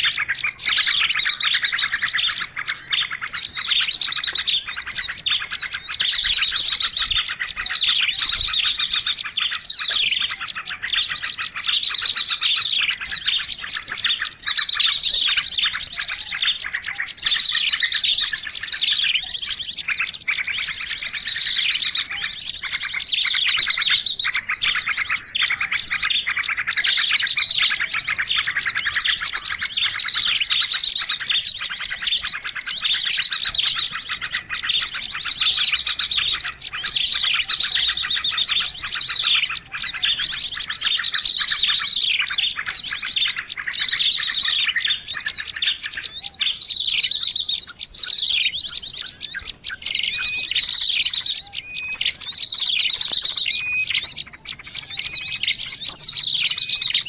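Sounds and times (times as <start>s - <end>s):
small songbirds chirping and trilling: 0.0s - 57.0s.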